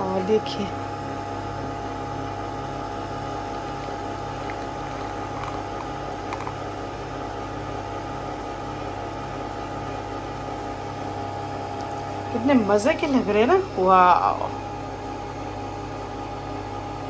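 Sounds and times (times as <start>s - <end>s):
coffee machine humming: 0.0s - 17.0s.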